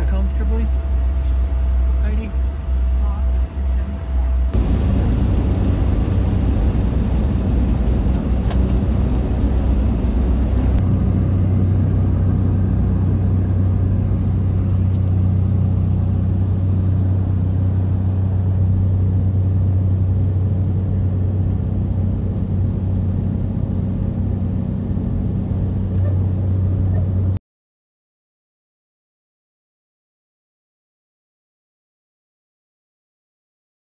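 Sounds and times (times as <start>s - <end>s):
propeller plane engine drone: 0.0s - 27.4s.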